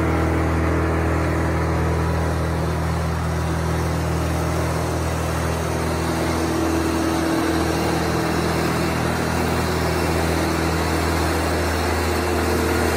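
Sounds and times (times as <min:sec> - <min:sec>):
brush chipper engine running: 0:00.0 - 0:12.9.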